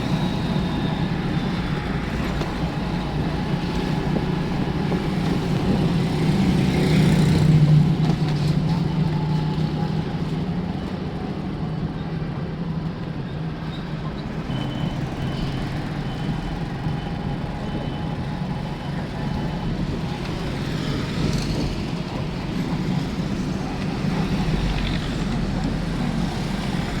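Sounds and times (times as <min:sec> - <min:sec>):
vehicle engines running: 0:00.0 - 0:27.0.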